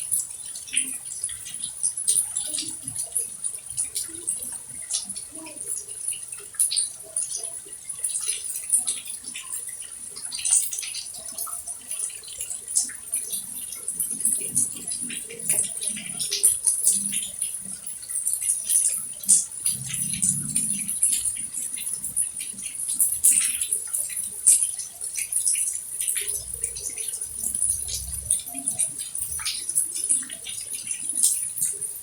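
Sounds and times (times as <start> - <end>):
water dripping and splashing: 0.0 - 32.0
faint distant voices: 0.1 - 32.0.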